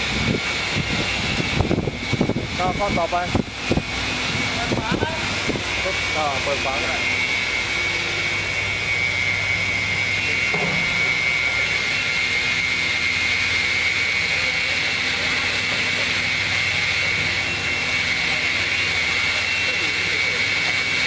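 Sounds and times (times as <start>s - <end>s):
rip saw whining: 0.0s - 21.0s.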